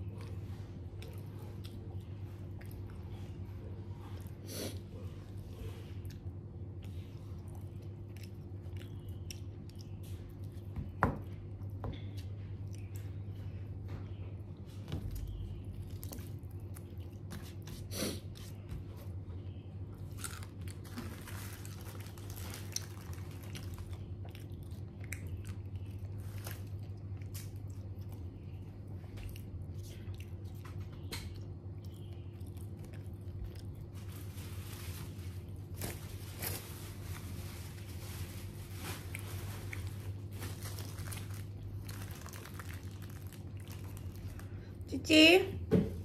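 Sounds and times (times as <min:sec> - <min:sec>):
chewing crispy fried chicken: 0:00.0 - 0:13.8, 0:14.4 - 0:44.9
steady low hum: 0:00.0 - 0:46.0.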